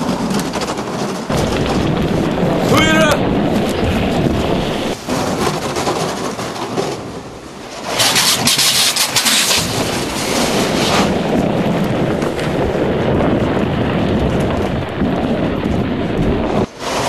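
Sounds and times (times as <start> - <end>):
rumble of speeding bobsled: 0.0 - 17.0
rushing wind: 0.0 - 17.0.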